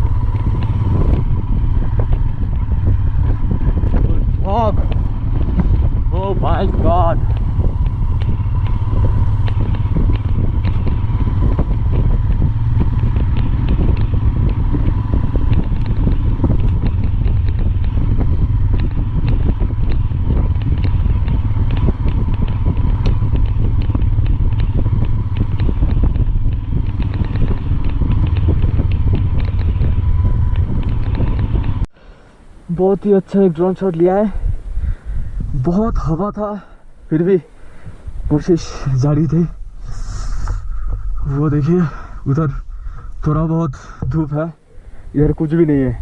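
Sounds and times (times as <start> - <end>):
strong wind buffeting microphone: 0.0 - 46.0.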